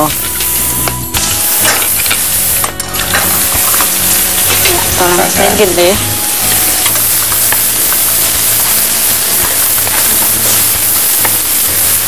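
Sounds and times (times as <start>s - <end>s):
onion sizzling in a pan: 0.0s - 12.0s.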